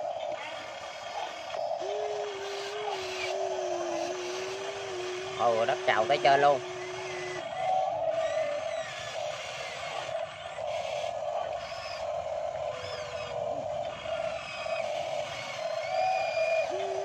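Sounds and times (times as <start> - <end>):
pump motors buzzing whine: 0.0 - 17.0.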